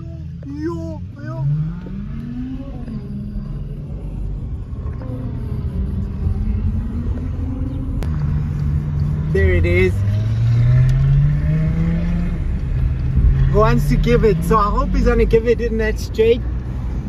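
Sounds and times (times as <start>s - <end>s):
car engine accelerating: 0.0s - 17.0s
road rumble: 0.0s - 17.0s.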